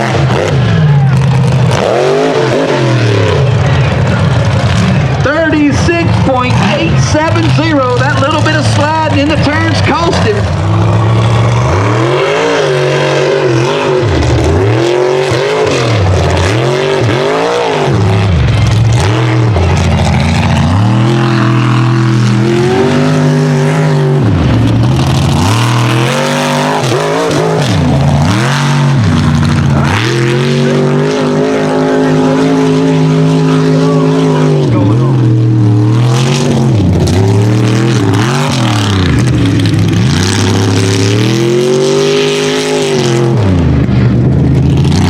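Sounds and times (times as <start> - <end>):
truck engine revving hard: 0.0 - 45.0.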